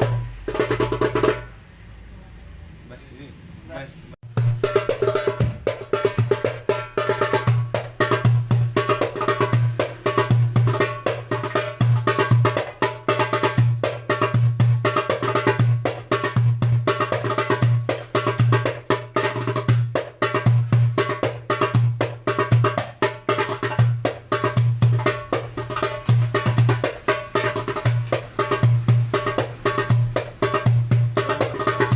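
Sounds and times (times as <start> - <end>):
hand drum rhythm: 0.0 - 1.5, 4.2 - 31.9.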